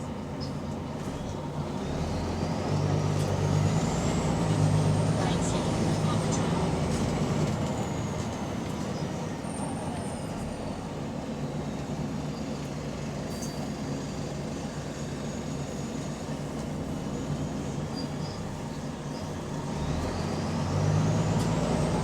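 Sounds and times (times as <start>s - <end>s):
diesel bus engine running: 0.0s - 22.0s.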